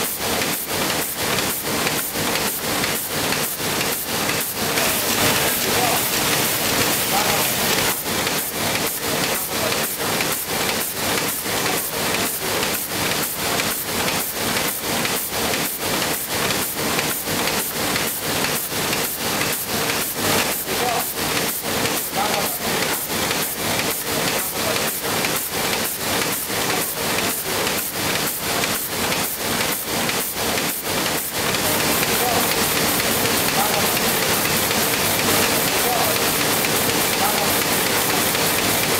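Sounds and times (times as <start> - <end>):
printing press rushing clatter: 0.0 - 38.9.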